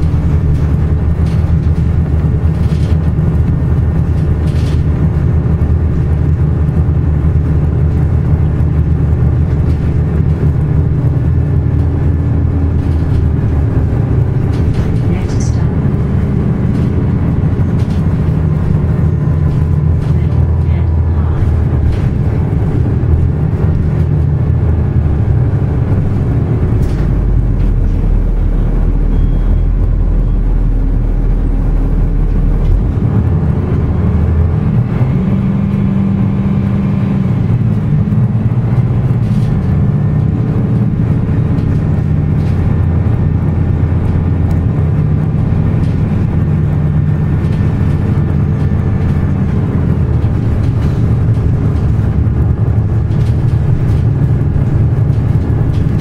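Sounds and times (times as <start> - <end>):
diesel engine drone: 0.0 - 56.0
road noise: 0.0 - 56.0.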